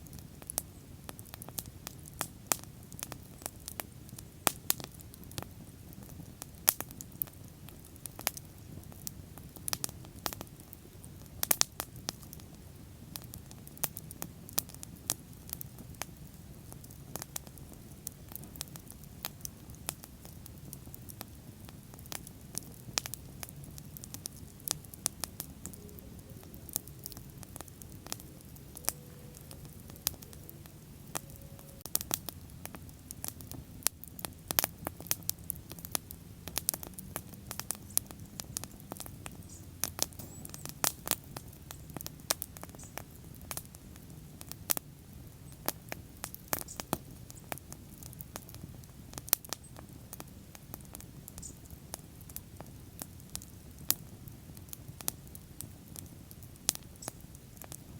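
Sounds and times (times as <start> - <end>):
low rush of flames: 0.0 - 57.9.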